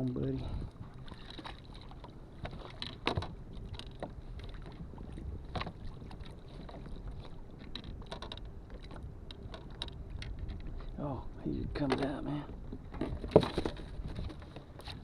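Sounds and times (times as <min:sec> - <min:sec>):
wind on microphone: 0:00.0 - 0:01.5, 0:02.5 - 0:07.4, 0:08.6 - 0:11.9, 0:12.5 - 0:15.0
knocks and clatter on kayak: 0:00.0 - 0:11.0, 0:11.6 - 0:15.0.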